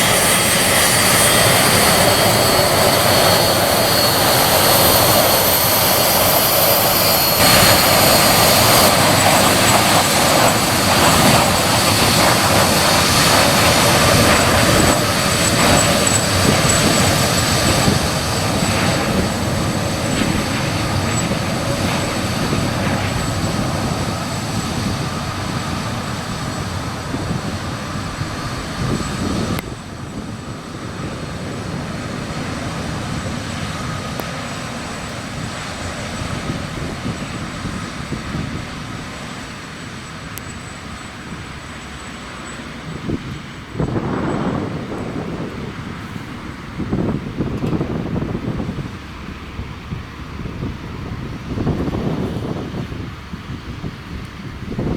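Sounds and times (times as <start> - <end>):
jet airliner departing: 0.0 - 54.9.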